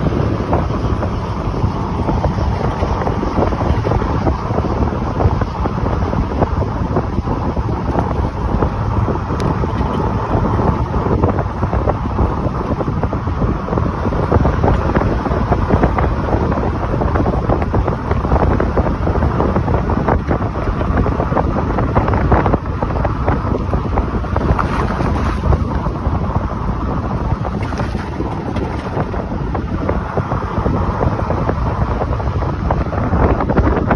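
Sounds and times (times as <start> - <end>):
truck exhaust running: 0.0 - 33.9
wind buffeting microphone: 0.0 - 33.9.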